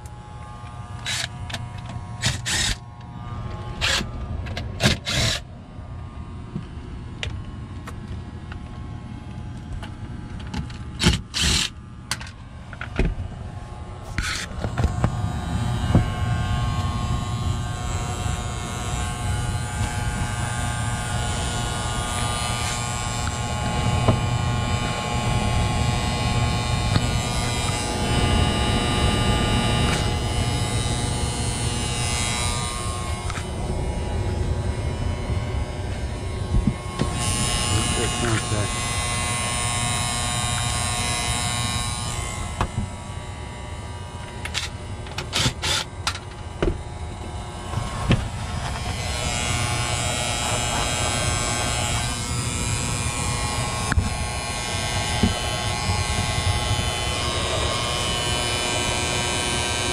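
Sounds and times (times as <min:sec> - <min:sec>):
heating unit buzzing hum: 0:00.0 - 0:59.9.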